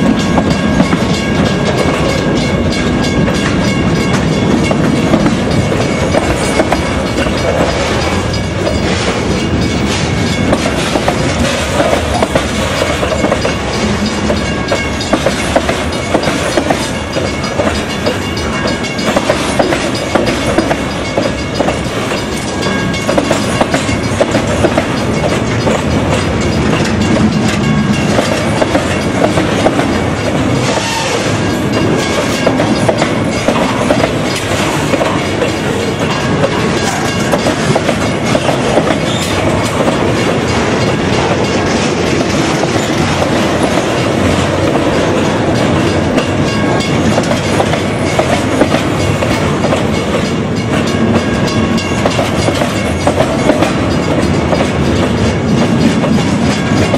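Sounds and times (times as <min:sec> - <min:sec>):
wheels clattering over rail joints: 0:00.0 - 0:56.9.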